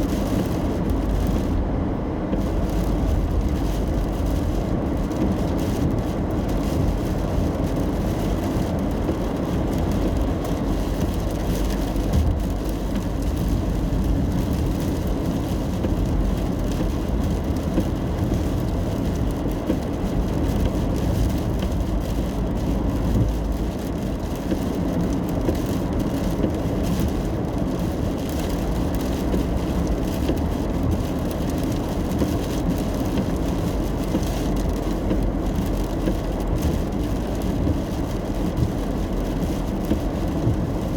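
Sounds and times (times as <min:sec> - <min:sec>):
rain patter on car: 0:00.0 - 0:40.9
tyres and engine rumble: 0:00.0 - 0:40.9.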